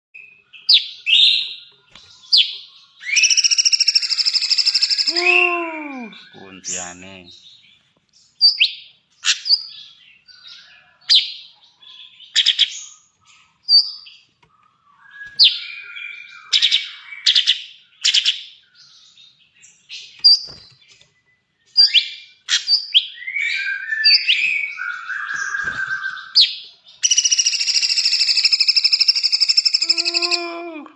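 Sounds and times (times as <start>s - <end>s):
songbird singing and trilling: 0.2s - 30.9s.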